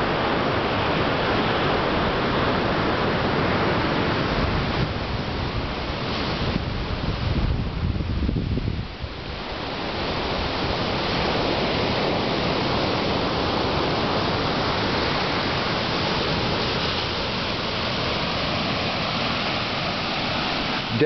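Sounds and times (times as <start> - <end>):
ocean surf breaking on rocks: 0.0 - 21.0.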